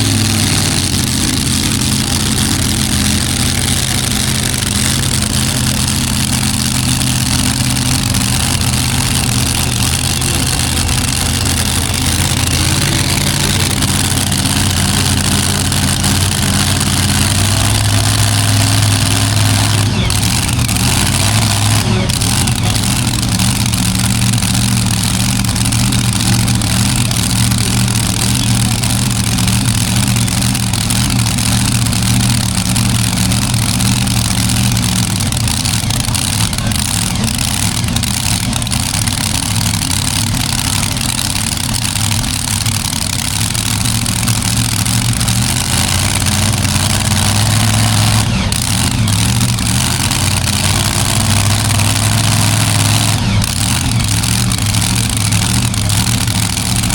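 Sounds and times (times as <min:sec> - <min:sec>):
heavy truck engine running: 0:00.0 - 0:56.9.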